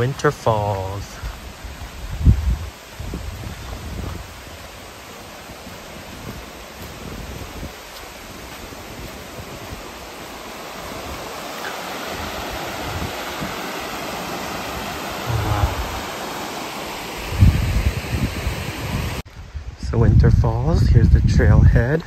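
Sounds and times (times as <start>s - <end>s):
creek and waterfall rushing: 0.0s - 19.3s.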